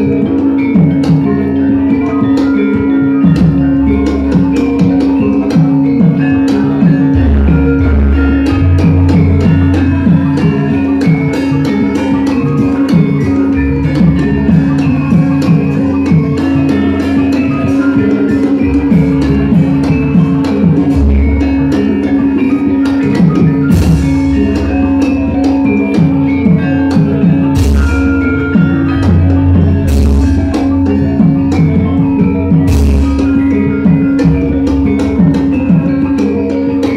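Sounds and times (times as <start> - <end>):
drum strokes dropping in pitch: 0.0 - 36.9
held metallophone tone: 0.0 - 36.9.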